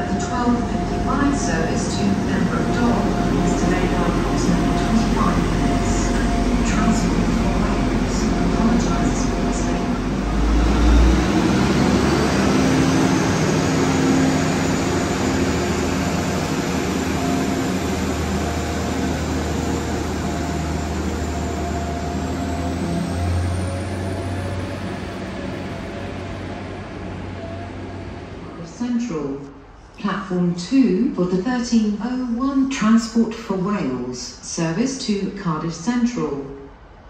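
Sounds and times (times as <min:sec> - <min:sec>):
diesel train engine whining: 0:00.0 - 0:29.9.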